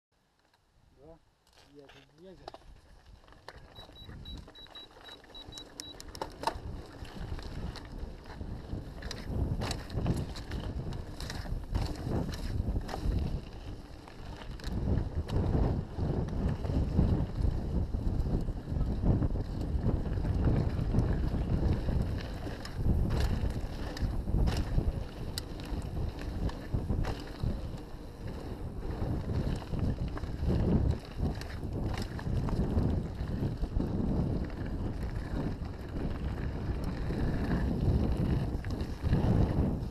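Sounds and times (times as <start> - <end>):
bike clattering over bumps: 2.5 - 39.9
wind buffeting microphone: 2.6 - 39.9
tyres rumbling on dirt: 3.0 - 39.9.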